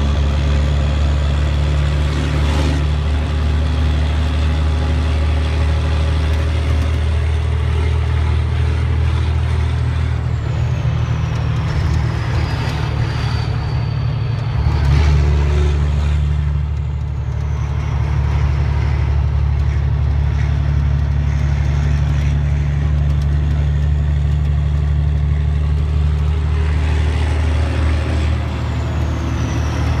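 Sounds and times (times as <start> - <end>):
diesel truck engine drone: 0.0 - 30.0.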